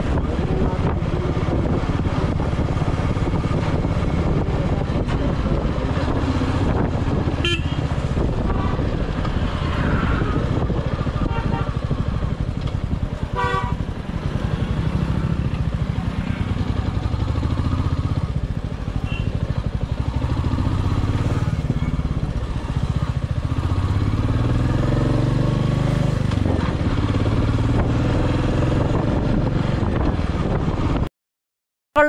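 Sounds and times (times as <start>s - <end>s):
motorcycle engine running: 0.0s - 31.1s.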